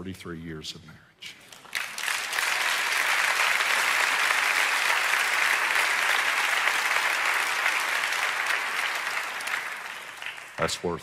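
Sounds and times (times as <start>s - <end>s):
congregation applauding: 1.4s - 11.0s.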